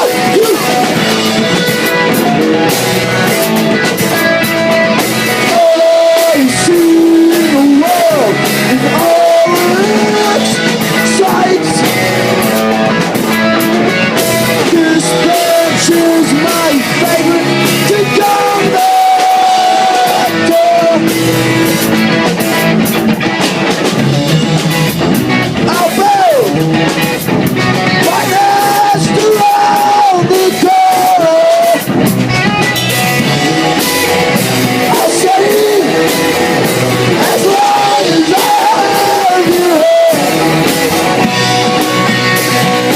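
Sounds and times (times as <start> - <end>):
person singing: 0.0 - 21.4, 25.6 - 26.6, 27.9 - 31.9, 33.0 - 42.9
live rock band playing: 0.0 - 42.9.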